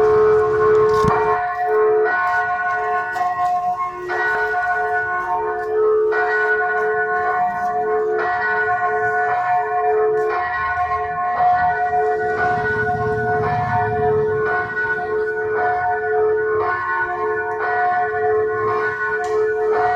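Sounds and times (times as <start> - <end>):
church bells ringing: 0.0 - 19.9.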